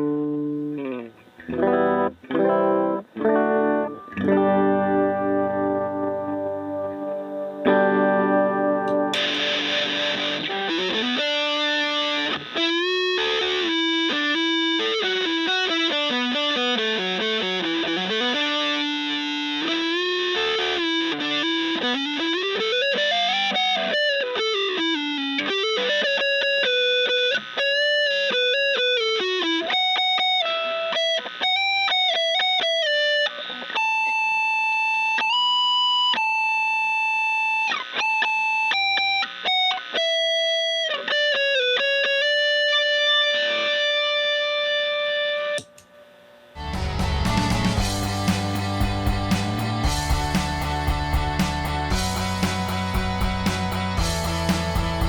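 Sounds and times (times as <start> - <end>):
electric guitar runs and held notes: 0.0 - 45.8, 46.6 - 55.0.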